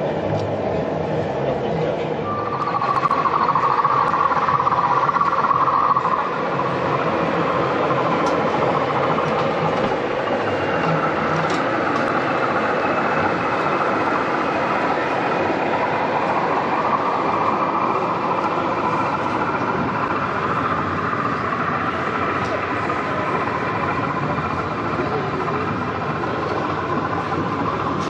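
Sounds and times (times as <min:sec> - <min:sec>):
model locomotive diesel engine drone: 0:00.0 - 0:28.0.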